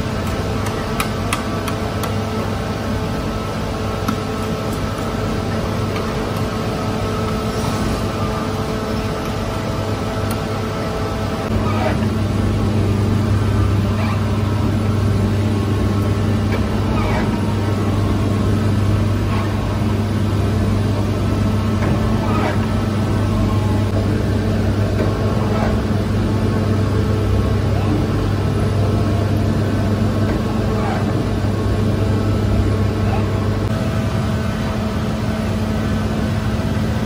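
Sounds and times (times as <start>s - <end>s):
dough machinery humming: 0.0s - 37.0s.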